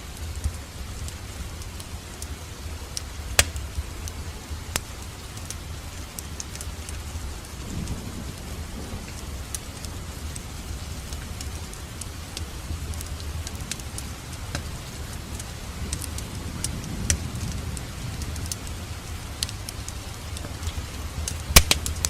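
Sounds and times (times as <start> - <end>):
wood fire crackling: 0.0 - 22.0
loud fire pops: 2.9 - 7.1, 7.7 - 22.0.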